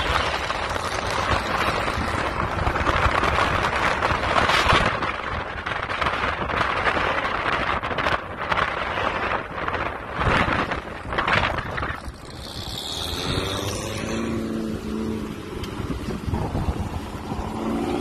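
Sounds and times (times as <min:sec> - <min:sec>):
road and traffic noise: 0:00.0 - 0:18.0
wind rushing over microphone: 0:00.0 - 0:18.0.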